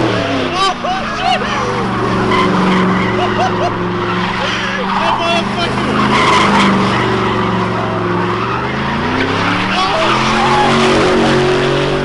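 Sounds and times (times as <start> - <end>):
car engine revving high: 0.0 - 12.0
tyres screeching: 0.0 - 12.0.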